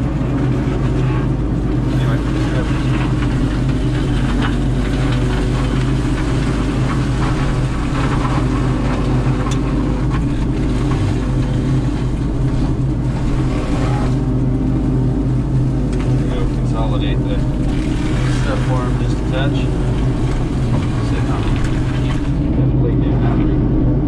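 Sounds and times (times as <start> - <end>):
heavy diesel machinery drone: 0.0 - 24.0.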